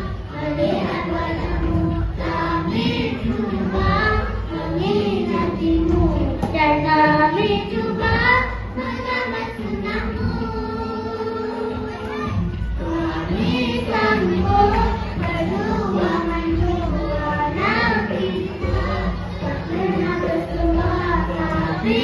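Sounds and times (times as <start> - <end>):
girls singing together: 0.0 - 22.0.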